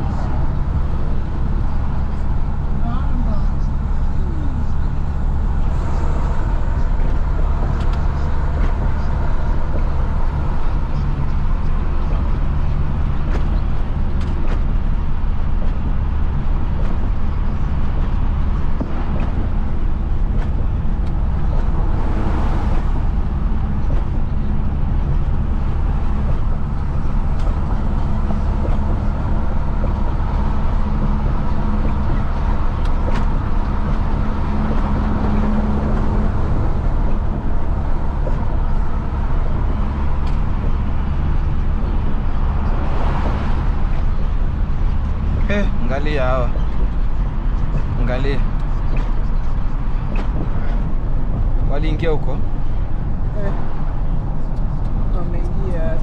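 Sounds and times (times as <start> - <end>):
road noise: 0.0 - 56.0
truck diesel engine drone: 0.0 - 56.0.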